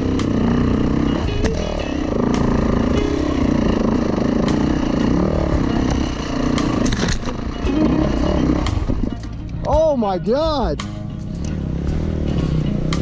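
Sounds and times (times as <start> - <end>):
dirt bike engine revving: 0.0 - 9.3, 11.3 - 13.0.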